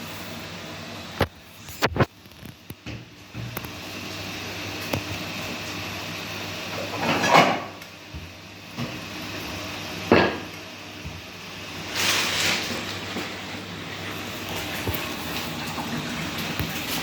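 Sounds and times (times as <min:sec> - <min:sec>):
washing machine humming: 0:00.0 - 0:17.0
water rushing in washing machine: 0:00.0 - 0:17.0.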